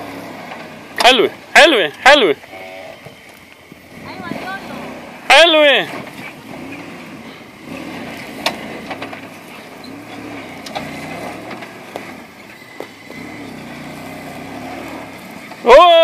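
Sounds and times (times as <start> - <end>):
suv engine at low revs: 0.0 - 16.0.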